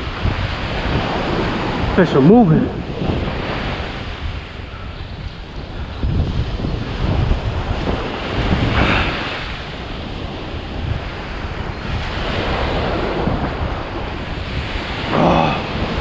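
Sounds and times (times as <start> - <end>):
ocean surf on beach: 0.0 - 16.0
wind buffeting microphone: 0.0 - 16.0.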